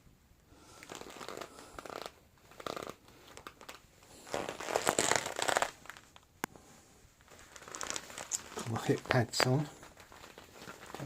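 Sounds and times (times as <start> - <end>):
plastic dress creaking and crinkling: 0.7 - 6.3, 7.2 - 11.0.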